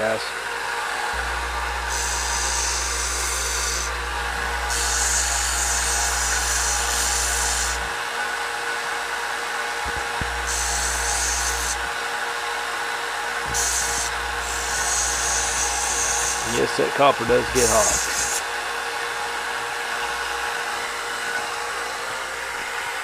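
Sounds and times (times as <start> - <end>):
belt grinder running: 0.0 - 23.0.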